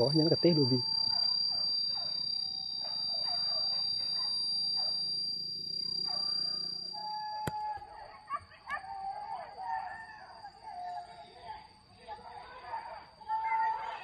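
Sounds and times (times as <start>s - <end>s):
distant dogs barking and baying: 0.0s - 11.4s
high insect drone: 0.0s - 14.0s.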